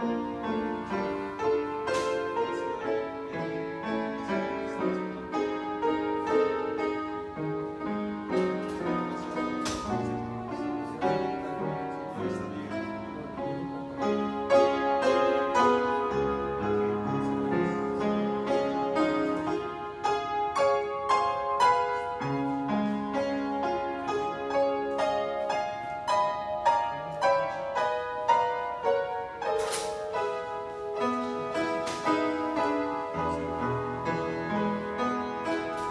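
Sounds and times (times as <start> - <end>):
upright piano playing: 0.0 - 35.9.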